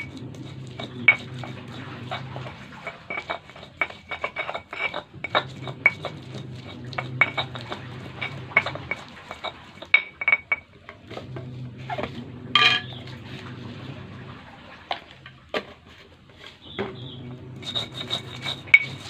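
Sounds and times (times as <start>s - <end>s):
stone scraping: 0.0s - 13.8s, 15.0s - 19.0s.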